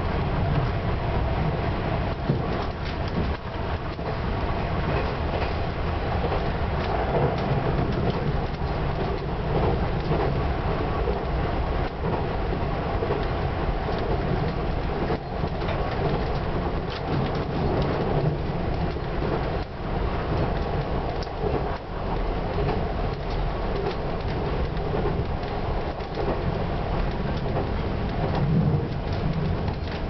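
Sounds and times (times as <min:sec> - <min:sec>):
diesel train rumbling: 0:00.0 - 0:30.0.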